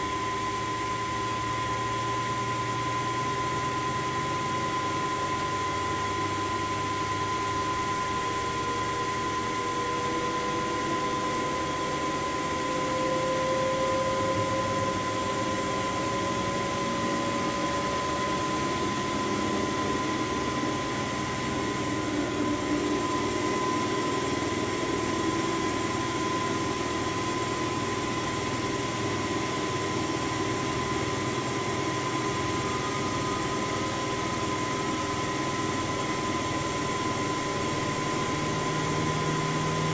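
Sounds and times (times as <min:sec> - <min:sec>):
high whine: 0:00.0 - 0:39.9
washing machine running: 0:00.0 - 0:39.9.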